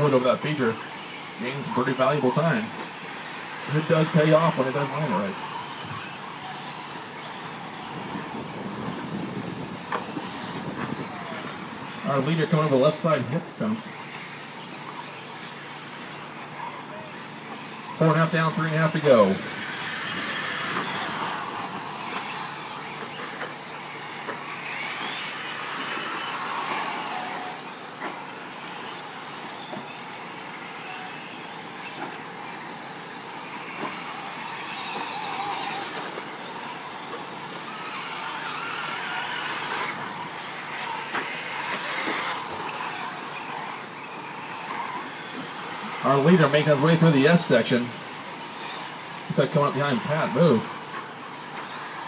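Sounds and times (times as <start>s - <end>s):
toy truck motors whining: 0.0s - 52.0s
tyres on dirt: 0.0s - 52.0s.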